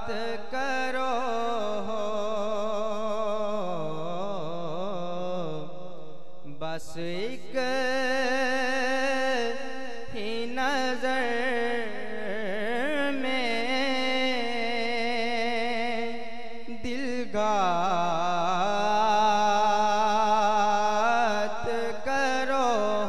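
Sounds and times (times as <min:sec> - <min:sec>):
man singing through a microphone: 0:00.0 - 0:23.0.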